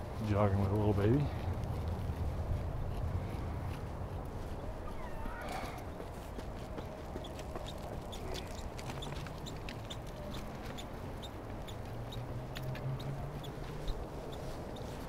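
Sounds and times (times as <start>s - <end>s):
footsteps on concrete: 0.0s - 15.0s.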